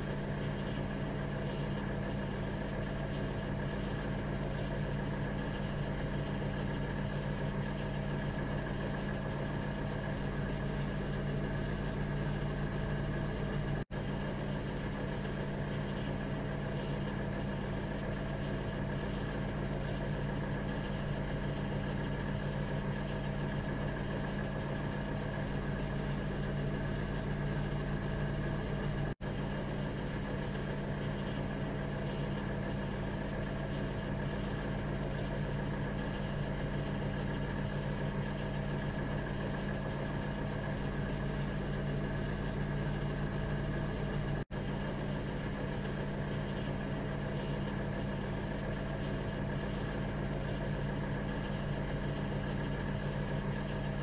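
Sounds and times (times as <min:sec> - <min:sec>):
microwave oven humming: 0:00.0 - 0:54.0.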